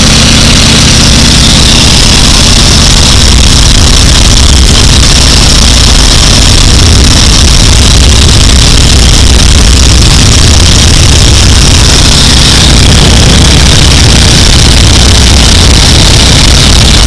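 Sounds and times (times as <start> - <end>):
biplane engine in flight: 0.0 - 17.0
wind rushing over microphone: 0.0 - 17.0.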